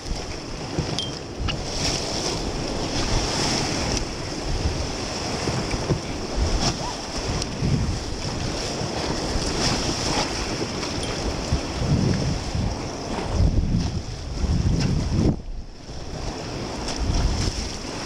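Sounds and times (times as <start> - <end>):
waves crashing around boat: 0.0 - 18.0
wind buffeting microphone: 0.0 - 18.0.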